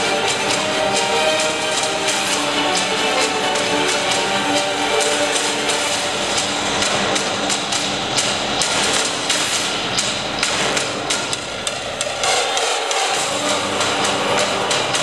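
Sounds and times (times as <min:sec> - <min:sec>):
loud percussive music: 0:00.0 - 0:15.0.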